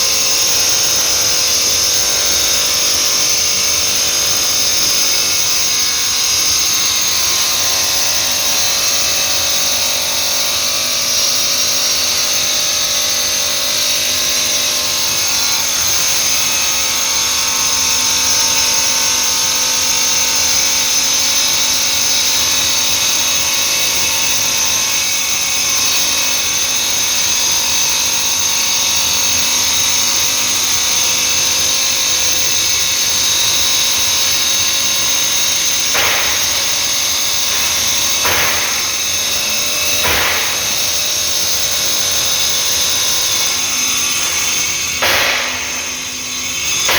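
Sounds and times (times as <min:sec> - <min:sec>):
stone-cutting machine whine: 0:00.0 - 0:46.9.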